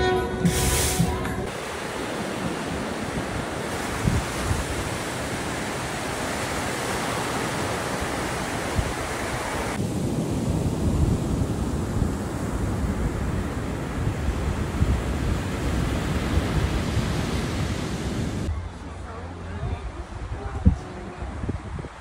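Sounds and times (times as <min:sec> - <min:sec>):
ocean surf on sandy beach: 0:00.5 - 0:22.0
wind buffeting microphone: 0:01.4 - 0:18.5, 0:19.5 - 0:22.0.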